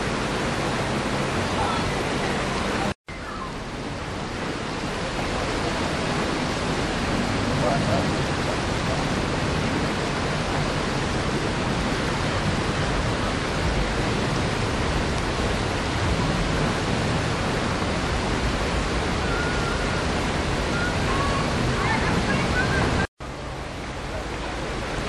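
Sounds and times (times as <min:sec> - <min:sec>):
creek water rushing over rocks: 0:00.0 - 0:25.0.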